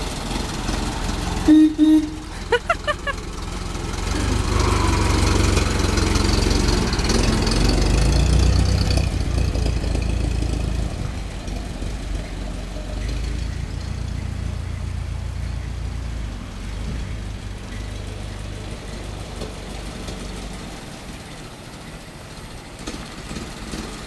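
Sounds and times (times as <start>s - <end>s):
four-cylinder engine running: 0.0s - 24.0s.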